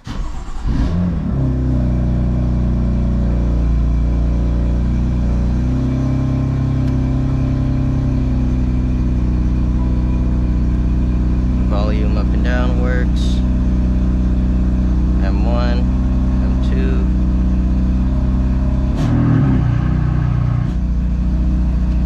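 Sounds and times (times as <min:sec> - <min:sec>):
car engine starting and idling: 0:00.0 - 0:22.0.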